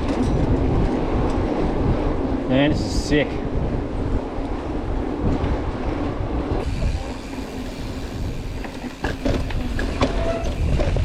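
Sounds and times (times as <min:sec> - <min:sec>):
bike rattling and clacking: 0:00.0 - 0:02.4, 0:04.2 - 0:11.0
bike tyre and frame rumble: 0:00.0 - 0:11.0
wind on microphone: 0:00.0 - 0:11.0.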